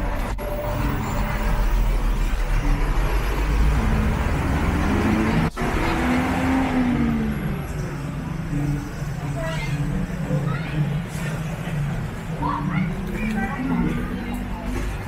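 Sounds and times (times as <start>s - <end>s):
street noise: 0.0s - 15.0s
vehicle engine rumble: 0.0s - 15.0s.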